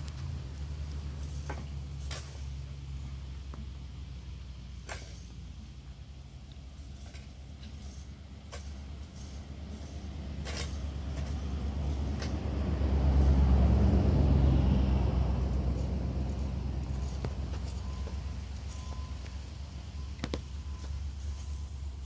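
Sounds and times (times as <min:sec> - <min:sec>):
vehicle engine rumble passing: 0:00.0 - 0:22.0.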